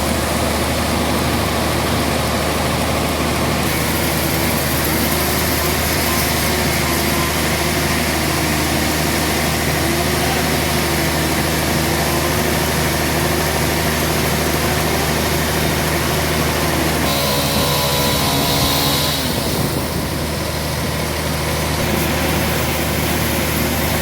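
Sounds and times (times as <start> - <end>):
sawmill machinery humming: 0.0 - 24.0.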